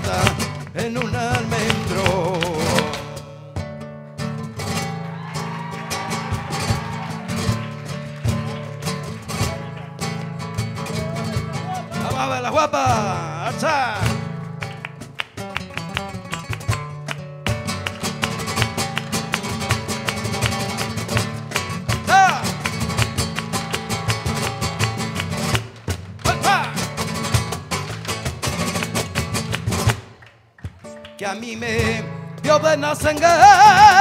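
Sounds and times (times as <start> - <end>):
hand clapping rhythm: 0.0 - 3.4, 5.2 - 34.0
cajon drumming: 0.0 - 34.0
flamenco guitar strumming: 0.0 - 34.0.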